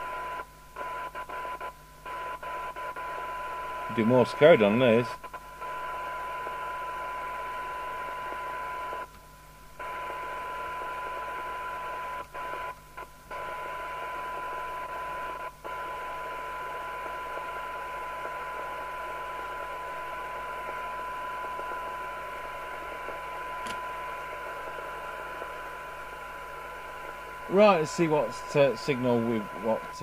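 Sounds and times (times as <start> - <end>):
radio test tone: 0.0 - 9.1, 9.8 - 30.0
radio hiss: 0.0 - 30.0.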